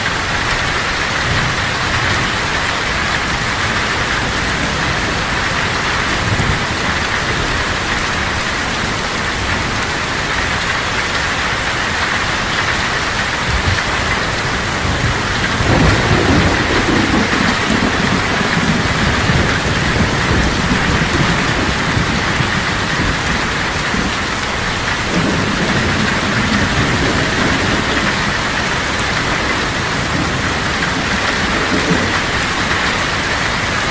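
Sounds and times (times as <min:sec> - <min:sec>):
heavy rain on a tin roof: 0:00.0 - 0:33.9
thunder rumbling: 0:00.0 - 0:33.9.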